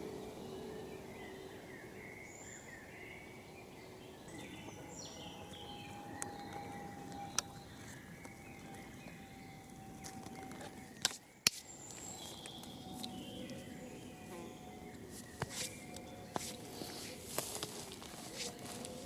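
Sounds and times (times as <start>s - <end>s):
birds calling: 0.0s - 19.0s
faint steady hum: 0.0s - 19.0s.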